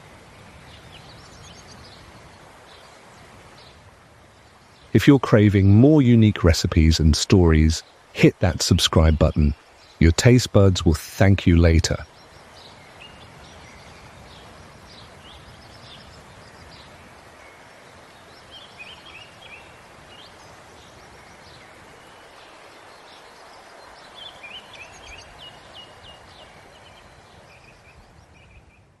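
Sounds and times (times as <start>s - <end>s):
outdoor background hiss: 0.0s - 29.0s
small birds chirping: 0.5s - 28.9s.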